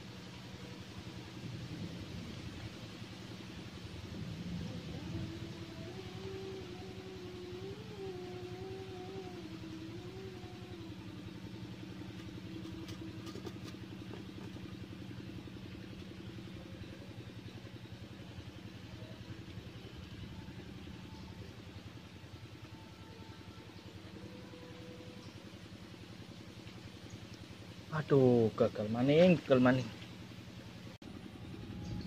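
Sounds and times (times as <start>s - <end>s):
faint steady drone: 0.0s - 32.0s
low outdoor rumble: 0.0s - 32.0s
small engine idling: 0.0s - 32.0s.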